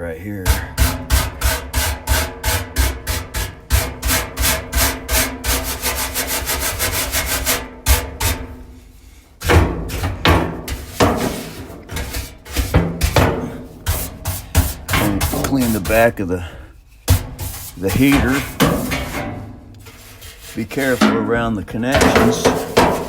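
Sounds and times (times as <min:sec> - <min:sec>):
rapid scrubbing strokes: 0:00.5 - 0:23.0.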